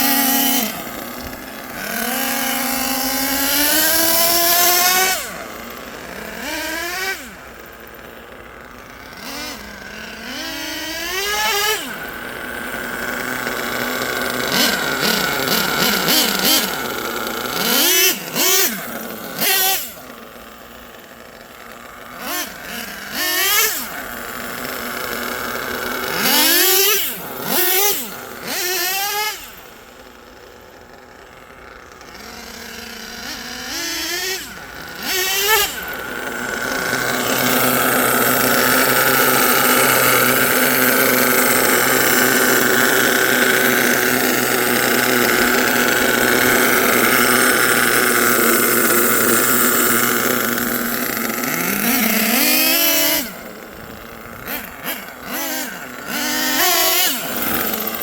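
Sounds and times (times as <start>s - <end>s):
nitro engines revving: 0.0s - 58.0s.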